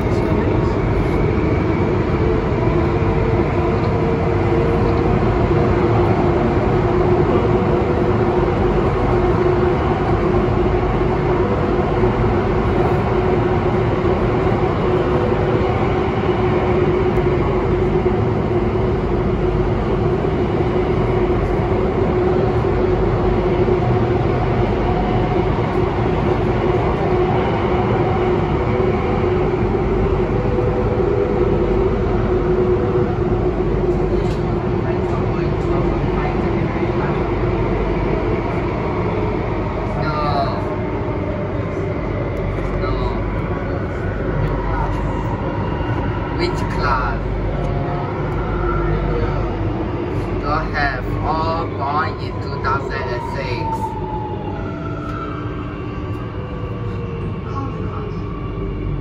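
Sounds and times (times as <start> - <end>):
constant hum: 0.0 - 59.0
metro train wheels rumbling: 0.0 - 59.0.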